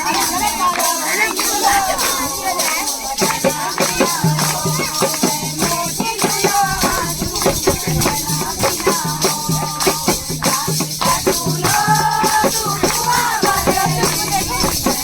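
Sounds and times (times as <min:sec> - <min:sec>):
music with fast percussive beat: 0:00.0 - 0:15.0.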